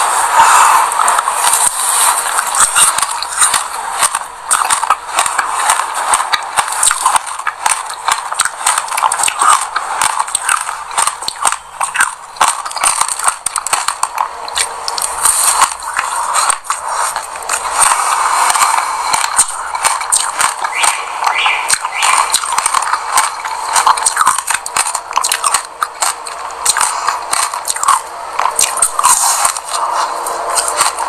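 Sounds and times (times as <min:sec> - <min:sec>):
crunching ice pop seeds: 0:00.0 - 0:31.0.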